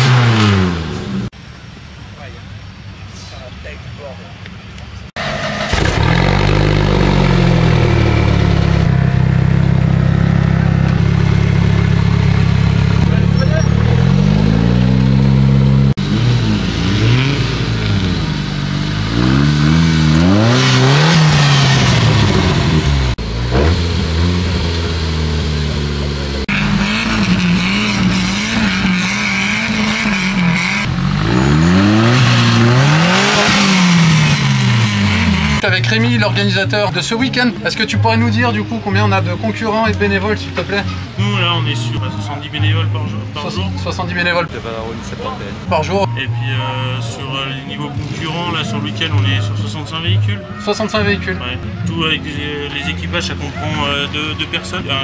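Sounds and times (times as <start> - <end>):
off-road vehicle engine revving: 0.0 - 1.4, 5.1 - 55.0.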